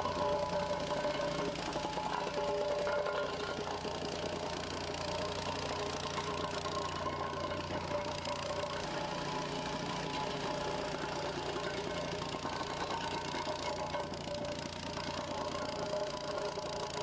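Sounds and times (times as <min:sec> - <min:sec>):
plate compactor engine droning: 0:00.0 - 0:17.0.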